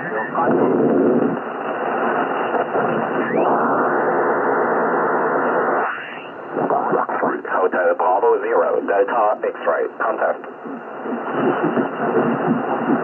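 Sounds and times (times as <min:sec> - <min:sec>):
radio static: 0:00.0 - 0:13.0
radio tuning pitch glides: 0:00.0 - 0:13.0.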